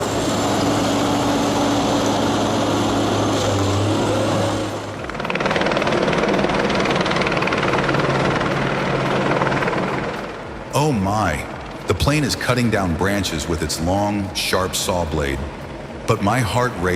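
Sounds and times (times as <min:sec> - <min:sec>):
helicopter turbine and rotor: 0:00.0 - 0:16.9.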